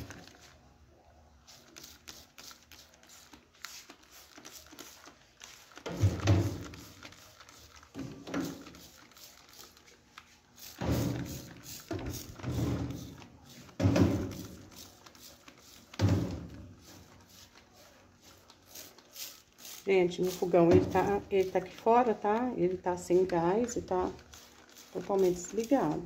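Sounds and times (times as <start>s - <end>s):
spray bottle spritzing: 1.5s - 22.4s, 23.1s - 26.0s.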